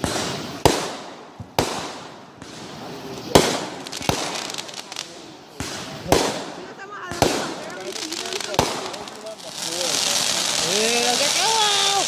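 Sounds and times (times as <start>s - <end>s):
crackling pops: 0.0s - 12.0s
fireworks banging: 0.0s - 12.0s.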